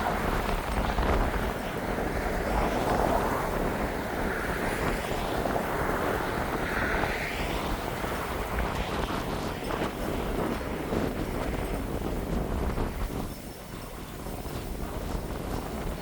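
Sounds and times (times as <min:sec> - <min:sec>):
gale-force wind roaring: 0:00.0 - 0:16.0
wind buffeting microphone: 0:00.0 - 0:16.0.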